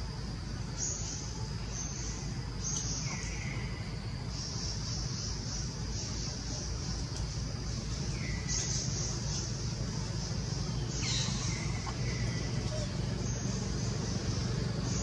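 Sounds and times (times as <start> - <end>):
insects buzzing: 0.0 - 15.0
low outdoor rumble: 0.0 - 15.0.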